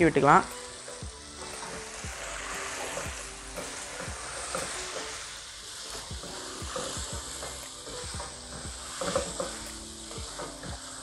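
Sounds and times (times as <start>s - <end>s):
food sizzling: 0.0s - 11.0s
wooden spatula scraping pot: 0.8s - 11.0s.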